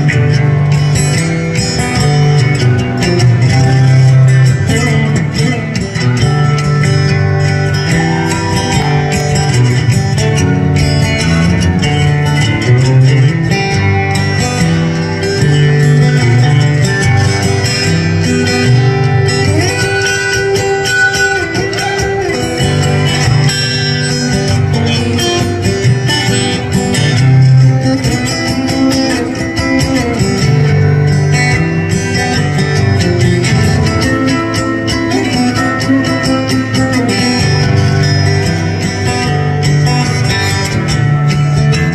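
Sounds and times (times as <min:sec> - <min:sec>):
solo acoustic guitar: 0:00.0 - 0:41.9.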